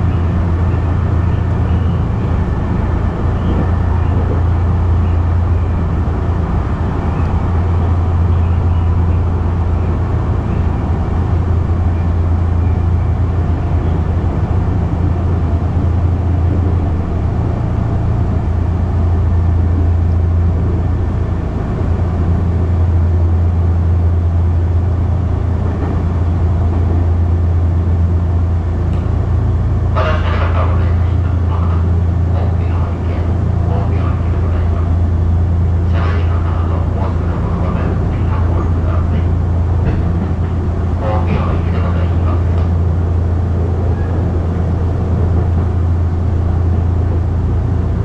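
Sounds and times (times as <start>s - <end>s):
train wheels droning on rails: 0.0s - 48.0s.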